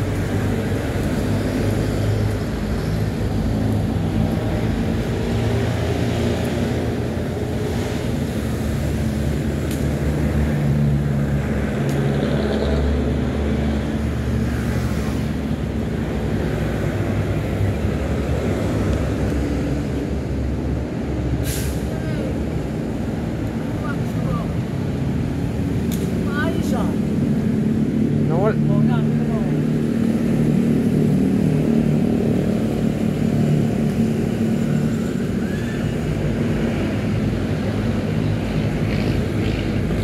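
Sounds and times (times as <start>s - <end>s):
road and wind noise: 0.0s - 40.0s.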